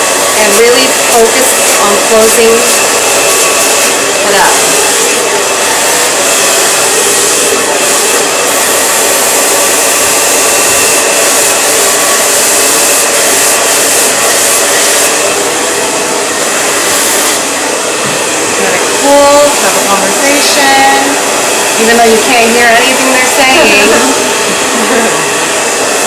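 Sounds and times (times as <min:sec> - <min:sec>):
blow dryer running: 0:00.0 - 0:26.0.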